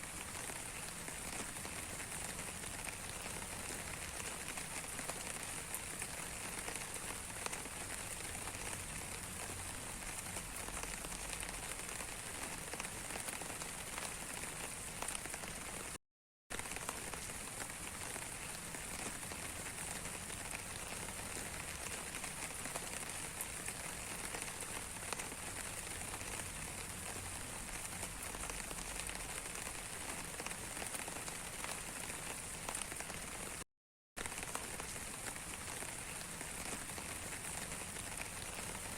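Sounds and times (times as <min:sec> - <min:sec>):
rain falling on a surface: 0:00.0 - 0:33.6, 0:34.2 - 0:38.9.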